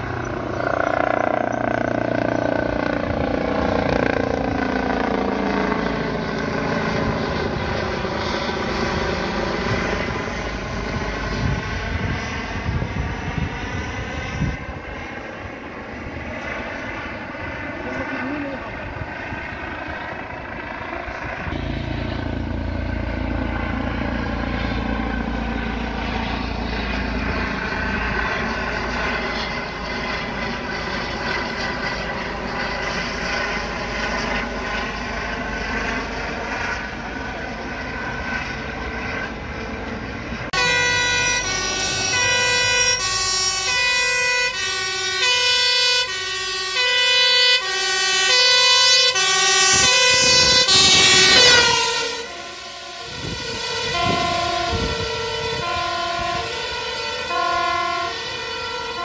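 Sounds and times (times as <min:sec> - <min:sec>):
fire engine two-tone siren: 0:00.0 - 0:59.0
helicopter rotor drone: 0:00.0 - 0:59.0.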